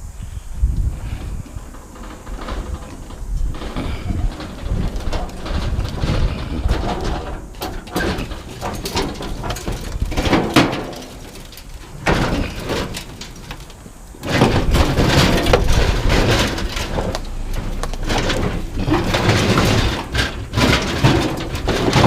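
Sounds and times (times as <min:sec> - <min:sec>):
dense rumbling noise: 0:00.0 - 0:22.0
metal parts clattering: 0:01.2 - 0:22.0.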